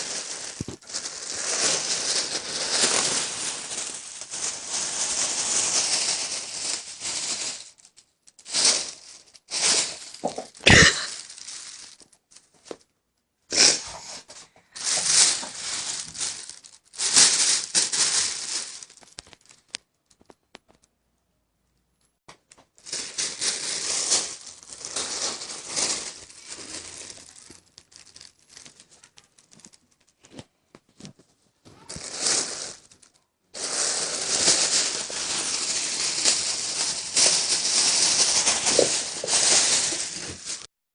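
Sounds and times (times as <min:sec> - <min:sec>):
plastic bag crinkling and rustling: 0:00.0 - 0:12.9, 0:13.5 - 0:20.8, 0:22.7 - 0:40.7.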